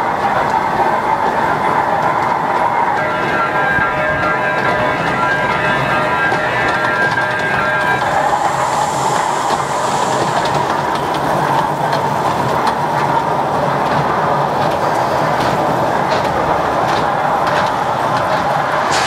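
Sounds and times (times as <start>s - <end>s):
toy train rumbling and whining: 0.0s - 19.0s.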